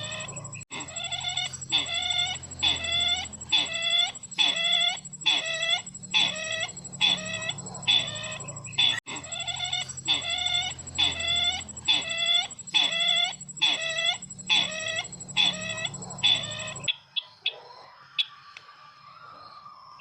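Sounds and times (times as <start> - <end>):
low background hum: 0.0 - 16.9
faint bird chirps: 0.0 - 17.5
recorded bird lure call: 0.0 - 17.5.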